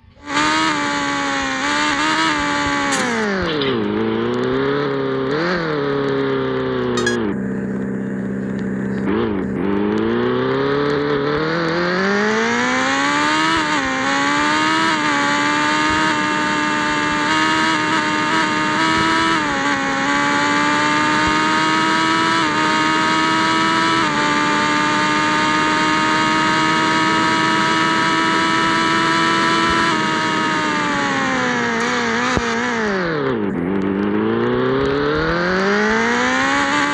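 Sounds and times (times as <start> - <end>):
motorcycle engine accelerating: 0.0 - 36.9.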